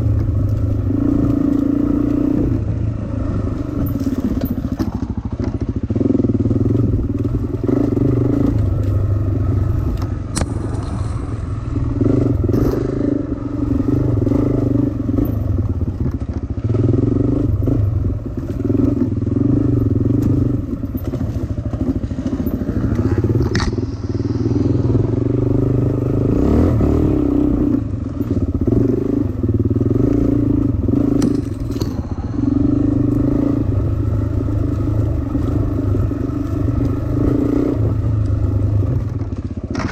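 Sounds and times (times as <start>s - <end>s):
dirt bike engine revving: 0.0s - 39.2s.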